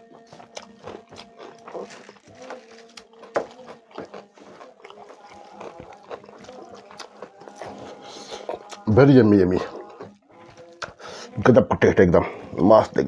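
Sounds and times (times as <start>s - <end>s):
person chewing and lip-smacking: 0.0s - 8.9s, 9.5s - 11.1s.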